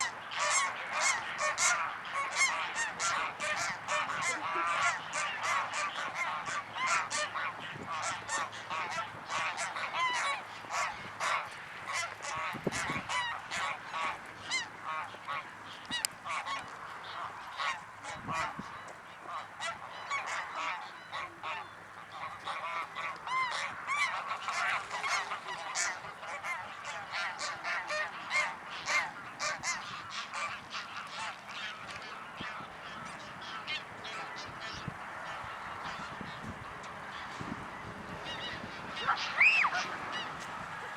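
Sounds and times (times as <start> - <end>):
geese honking and cackling: 0.0 - 40.9.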